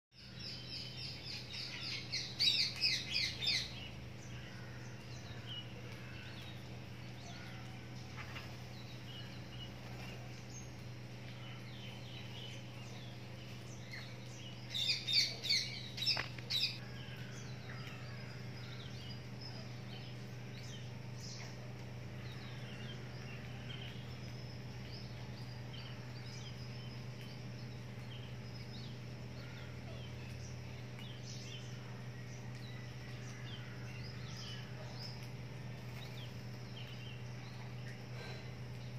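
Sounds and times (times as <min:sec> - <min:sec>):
steady low hum: 0:00.2 - 0:38.9.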